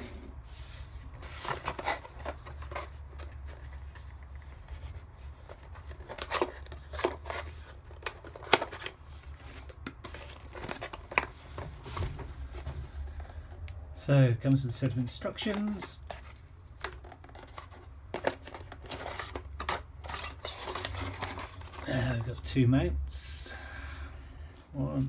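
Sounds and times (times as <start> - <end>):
plastic and cardboard rustling: 0.0 - 13.7, 14.4 - 22.6.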